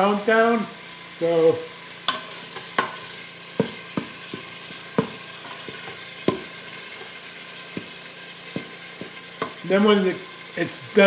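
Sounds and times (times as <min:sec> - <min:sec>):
meat sizzling in a pot: 0:00.0 - 0:11.0
utensil scraping a pot: 0:00.8 - 0:11.0.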